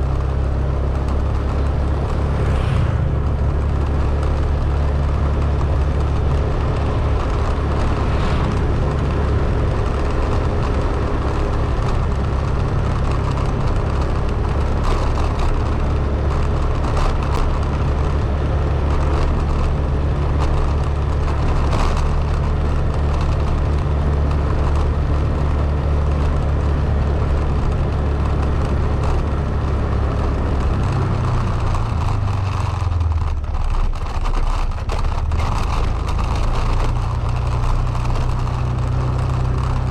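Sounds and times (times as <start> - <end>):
road and wind noise: 0.0 - 39.9
vehicle engine and road rumble: 0.0 - 39.9.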